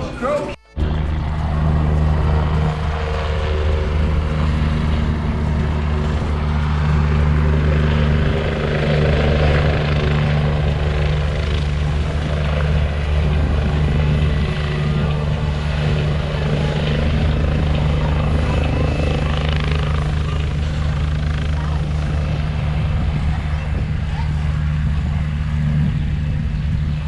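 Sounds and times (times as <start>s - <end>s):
helicopter low drone: 0.0s - 27.0s.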